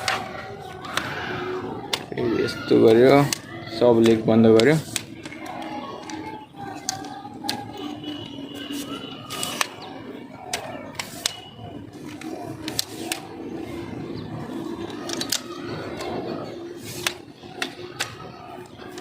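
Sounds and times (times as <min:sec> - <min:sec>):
tripod legs clicking: 0:00.0 - 0:01.2, 0:01.9 - 0:13.7, 0:14.5 - 0:19.0.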